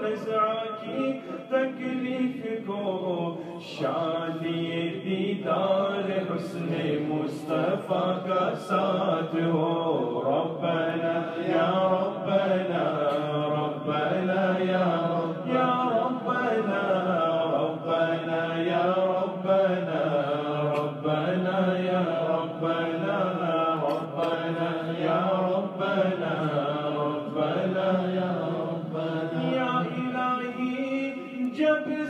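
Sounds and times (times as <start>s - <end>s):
male voices chanting: 0.0s - 32.0s
low vocal drone: 0.8s - 31.3s.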